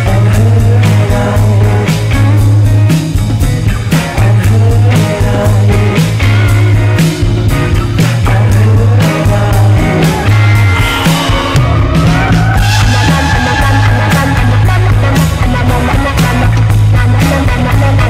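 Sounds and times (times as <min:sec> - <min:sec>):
psychedelic rock jam: 0:00.0 - 0:18.0.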